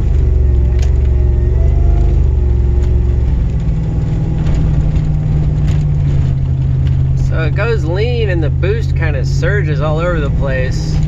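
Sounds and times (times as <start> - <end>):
turbocharged car engine: 0.0 - 11.0.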